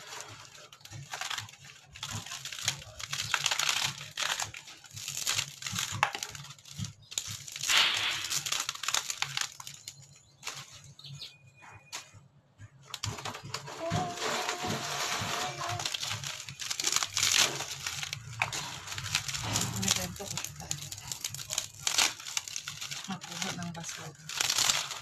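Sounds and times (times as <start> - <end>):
wooden boards scraping and tearing: 0.0 - 10.8, 13.0 - 25.0.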